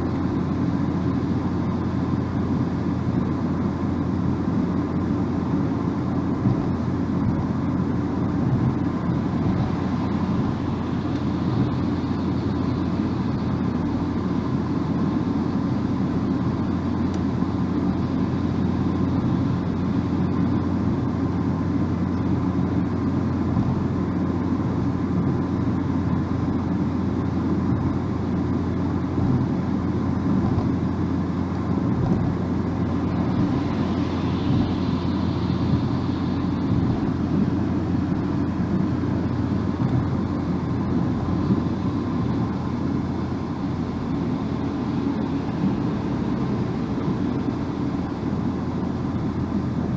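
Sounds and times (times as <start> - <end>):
road and tyre noise inside car: 0.0 - 49.9.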